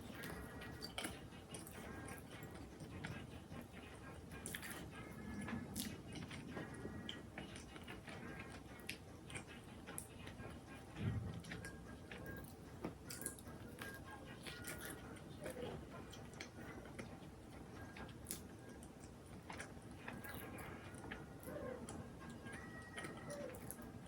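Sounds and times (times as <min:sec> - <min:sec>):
chewing: 0:00.0 - 0:24.0
faint background music: 0:00.0 - 0:24.0.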